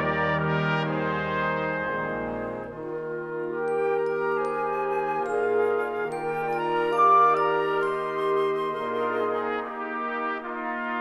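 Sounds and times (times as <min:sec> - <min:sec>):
wind band brass chords: 0:00.0 - 0:11.0.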